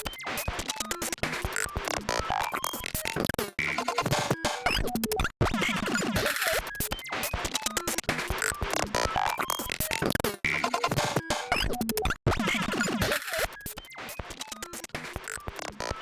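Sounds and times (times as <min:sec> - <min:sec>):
glitchy electronic percussion: 0:00.0 - 0:16.0.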